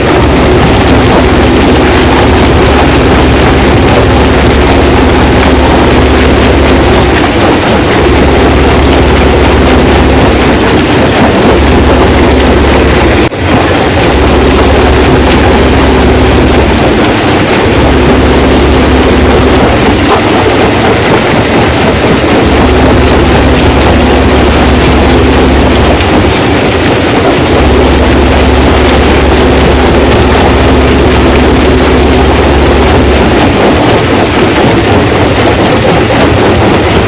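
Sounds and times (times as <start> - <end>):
rock crusher rumbling and rattling: 0.0 - 37.0
steady hum: 0.0 - 37.0.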